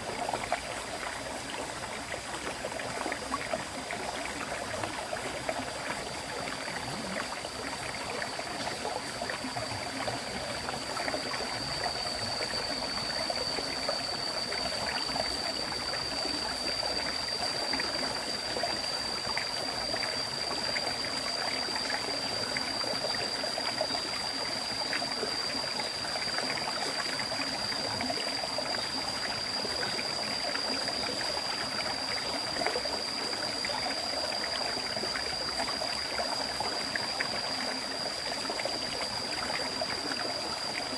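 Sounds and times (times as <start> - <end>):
river water babbling over stones: 0.0 - 40.9.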